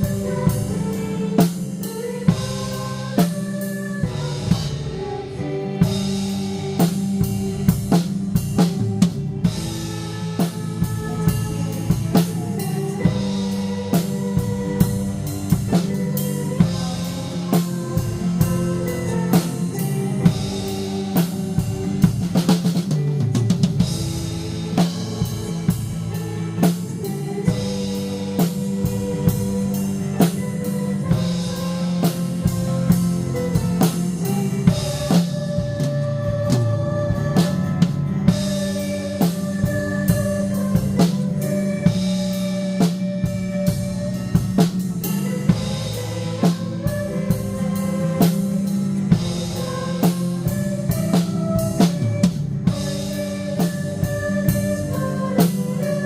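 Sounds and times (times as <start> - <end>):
band playing a praise song: 0.0 - 56.0
drum kit beat: 0.0 - 56.0.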